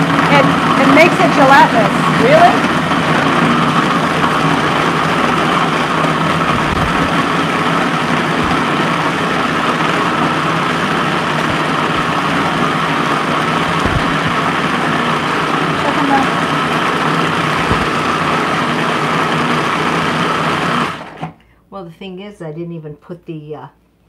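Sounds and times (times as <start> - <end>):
food processor motor running: 0.0 - 21.4.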